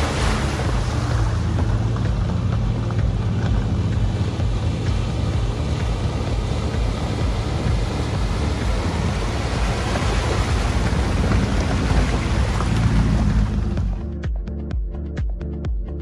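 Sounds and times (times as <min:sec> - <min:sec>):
road and wind noise: 0:00.0 - 0:14.8
engine and tyre rumble: 0:00.0 - 0:16.0.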